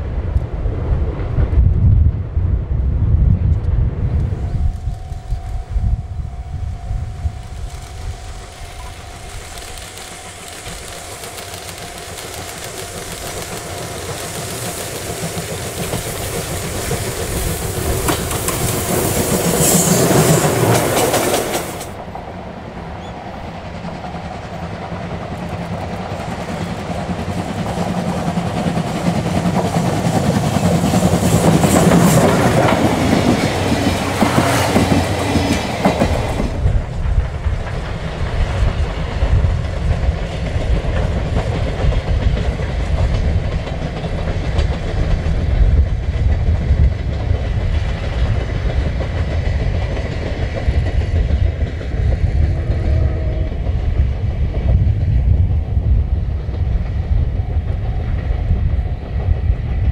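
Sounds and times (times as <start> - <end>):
train wheels clattering on rails: 4.2 - 59.9.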